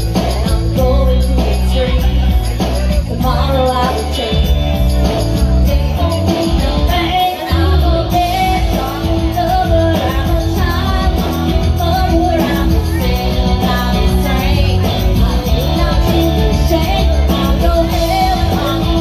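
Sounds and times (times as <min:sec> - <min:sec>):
amplified backing music with bass: 0:00.0 - 0:19.0
woman singing into a microphone: 0:00.0 - 0:19.0.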